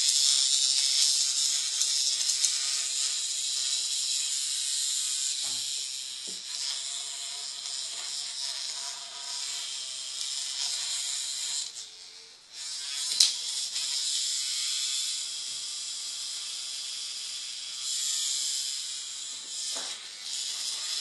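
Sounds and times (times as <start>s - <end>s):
vibrating toy bug buzzing on tile: 0.0s - 21.0s.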